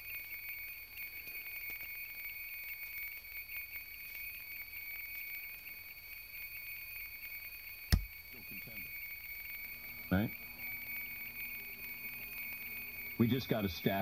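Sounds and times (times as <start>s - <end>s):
space heater humming with whine: 0.0s - 14.0s.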